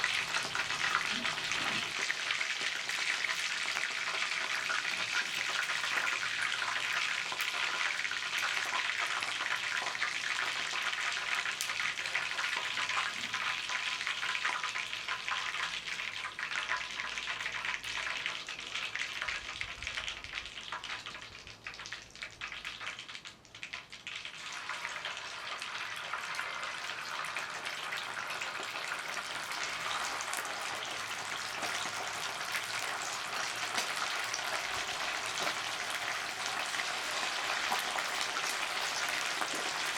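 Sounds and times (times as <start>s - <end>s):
chicken wings sizzling in a pan: 0.0s - 39.9s.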